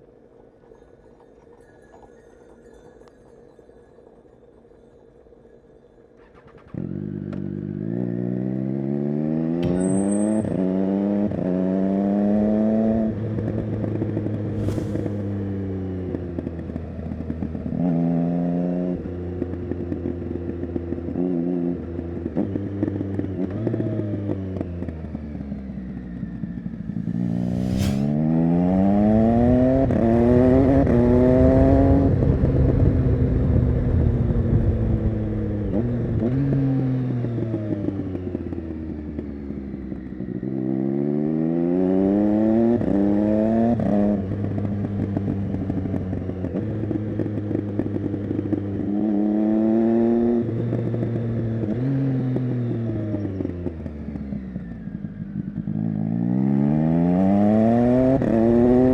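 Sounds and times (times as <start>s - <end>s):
motorcycle engine accelerating: 6.3s - 58.9s.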